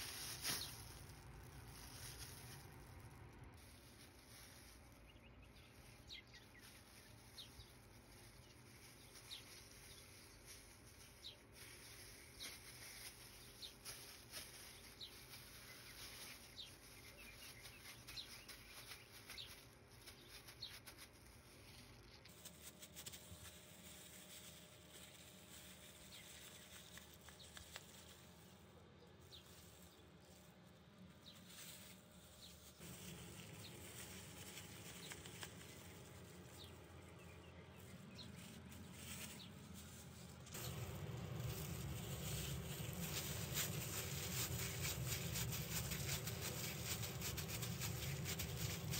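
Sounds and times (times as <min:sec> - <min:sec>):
plastic bag crinkling: 0:00.0 - 0:48.9.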